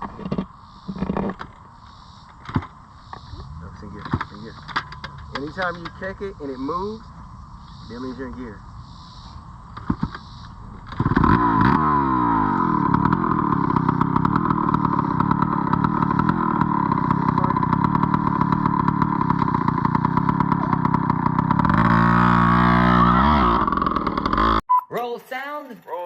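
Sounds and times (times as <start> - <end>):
dirt bike engine revving: 0.3 - 24.6.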